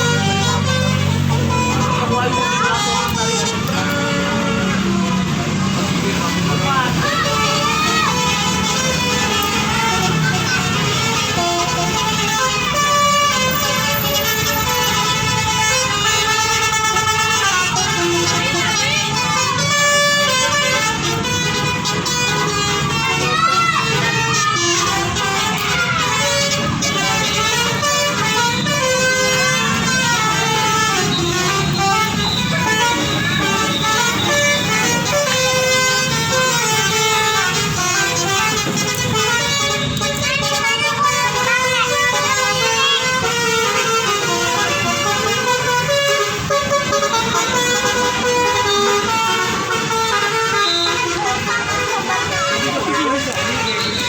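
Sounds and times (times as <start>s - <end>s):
bus engine running: 0.0s - 54.0s
musical bus horn tune: 0.0s - 54.0s.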